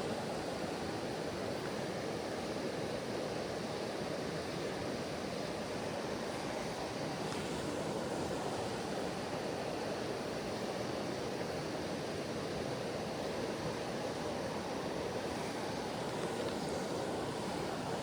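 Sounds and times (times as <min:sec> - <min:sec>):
mountain creek rushing: 0:00.0 - 0:18.0.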